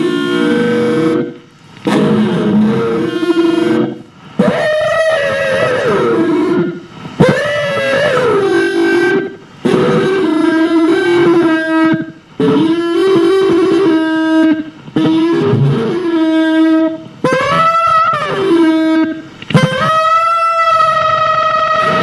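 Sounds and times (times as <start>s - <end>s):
amplified throat singing: 0.0s - 22.0s.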